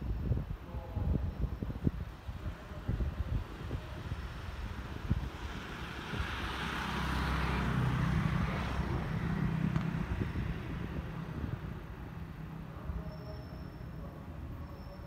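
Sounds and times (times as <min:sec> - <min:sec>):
passing train rumble: 0:00.0 - 0:15.0.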